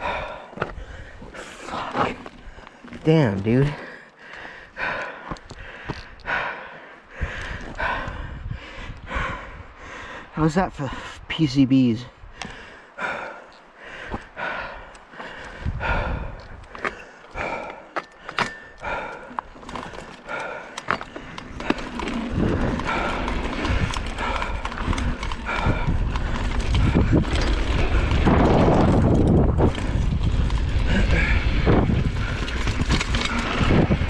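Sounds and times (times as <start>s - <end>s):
bike rattling and clicking: 0.0s - 6.6s, 12.4s - 34.0s
bike tyres on dirt: 0.0s - 11.2s, 12.2s - 34.0s
rushing wind and tyre noise: 4.5s - 34.0s.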